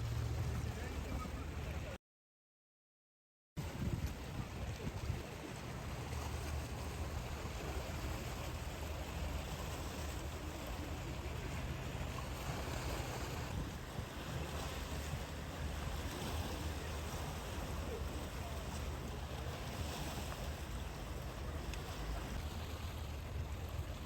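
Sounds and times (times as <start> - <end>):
sea surf washing in: 3.6 - 24.0
wind buffeting microphone: 3.6 - 24.0.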